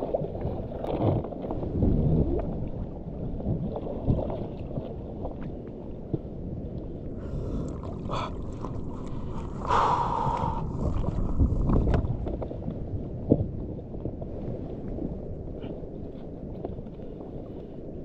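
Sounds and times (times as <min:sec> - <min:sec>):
sea water sloshing: 0:00.0 - 0:18.0
wind on microphone: 0:00.0 - 0:18.0.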